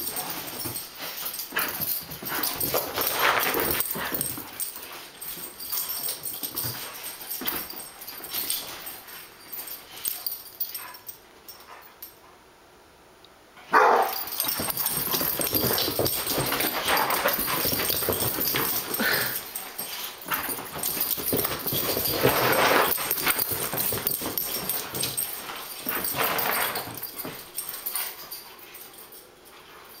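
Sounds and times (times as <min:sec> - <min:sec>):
dogs scuffling: 0:00.0 - 0:11.2, 0:14.0 - 0:30.0.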